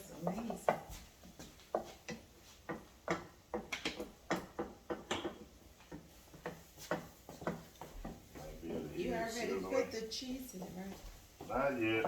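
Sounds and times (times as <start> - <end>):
utensil tapping on a skillet: 0.0 - 8.6, 10.1 - 12.0.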